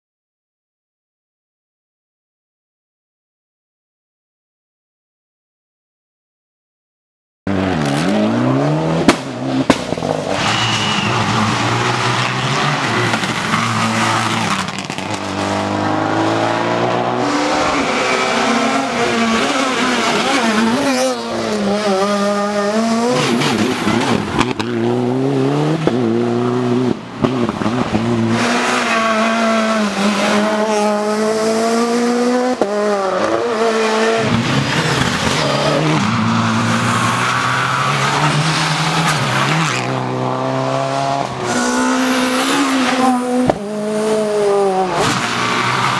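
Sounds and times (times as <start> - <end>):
rally car engines revving: 7.5 - 45.9.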